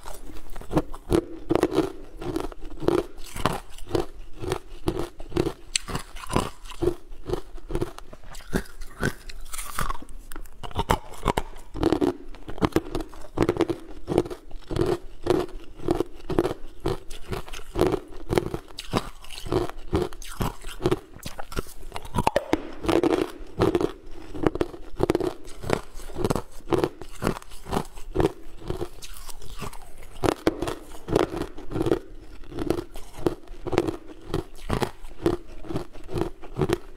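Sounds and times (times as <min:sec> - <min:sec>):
ice cubes crunching: 0:00.0 - 0:36.9.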